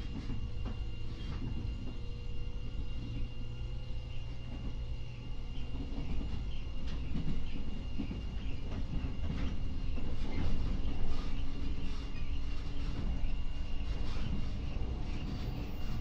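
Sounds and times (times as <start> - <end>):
train equipment whine and hum: 0.0 - 16.0.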